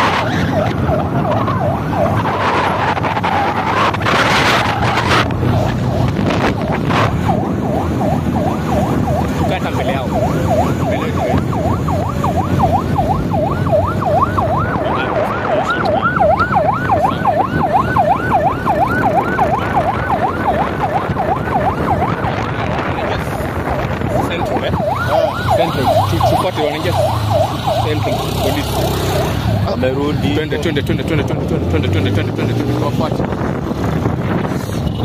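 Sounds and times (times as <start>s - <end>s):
street noise: 0.0s - 35.0s
vehicle siren yelping: 0.0s - 35.0s.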